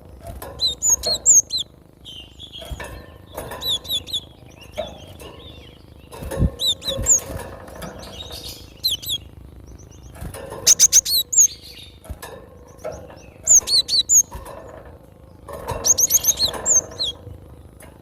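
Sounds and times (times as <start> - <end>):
bird chirping: 0.6 - 12.0, 12.6 - 14.4, 15.3 - 17.2.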